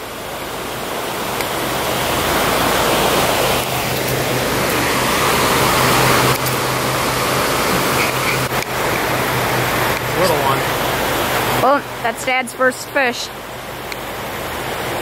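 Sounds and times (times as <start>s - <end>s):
river water rushing over rapid: 0.0s - 15.0s.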